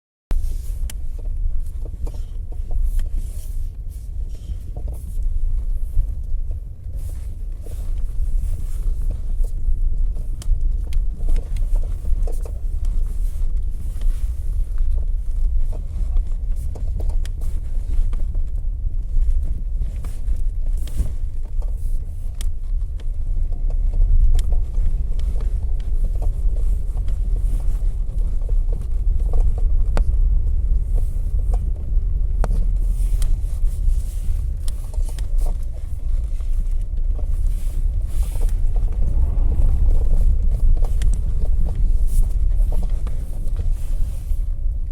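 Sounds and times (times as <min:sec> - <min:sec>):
car driving rumble: 0:00.3 - 0:44.9.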